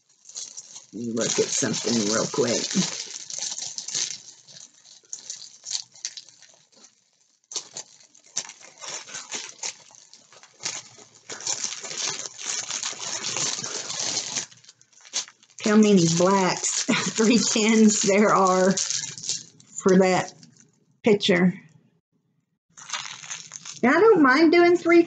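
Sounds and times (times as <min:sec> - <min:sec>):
small beads rattling in bags: 0:00.0 - 0:20.6, 0:22.8 - 0:23.8
plastic bags crinkling: 0:00.0 - 0:20.7, 0:22.7 - 0:24.1.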